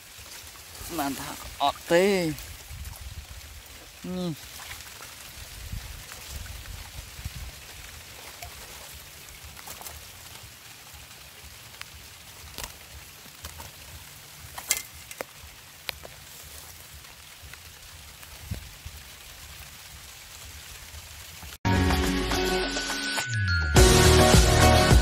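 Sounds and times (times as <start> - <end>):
faint outdoor hiss: 0.0 - 21.6.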